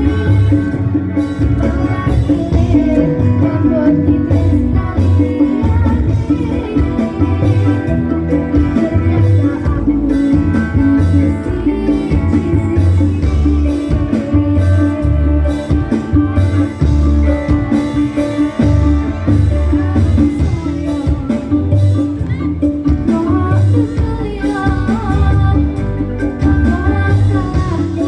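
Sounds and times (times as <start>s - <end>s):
instrumental music with bass line: 0.0s - 28.0s.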